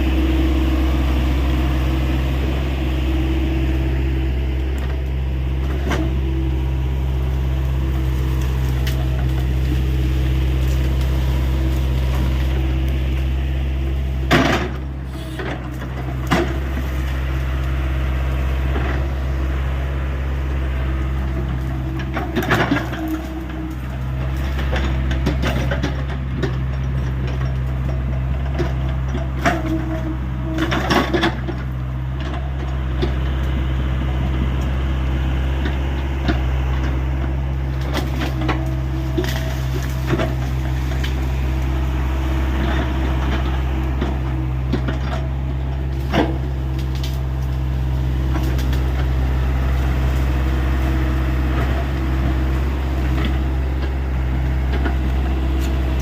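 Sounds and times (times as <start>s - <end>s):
excavator diesel engine running: 0.0s - 56.0s
branches cracking: 0.5s - 56.0s.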